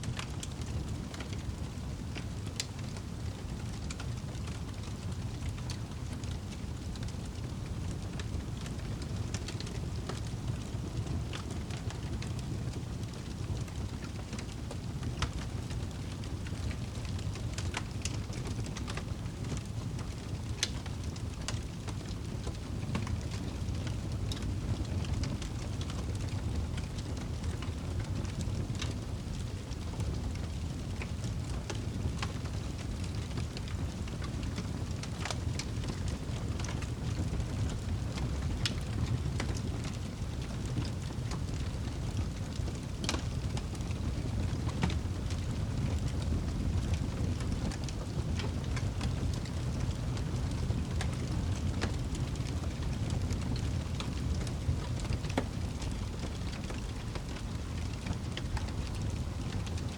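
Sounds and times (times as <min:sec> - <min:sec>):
campfire crackling and popping: 0:00.1 - 0:59.9.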